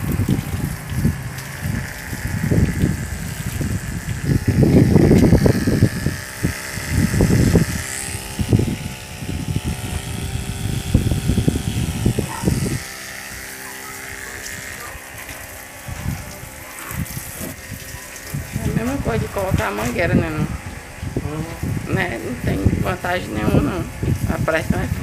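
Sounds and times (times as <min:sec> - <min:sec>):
small water pump humming: 0:00.0 - 0:25.0.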